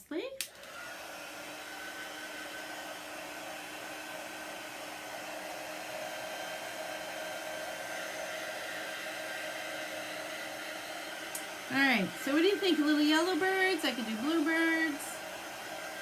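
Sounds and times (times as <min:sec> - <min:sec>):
hair dryer blowing: 0:00.4 - 0:16.0.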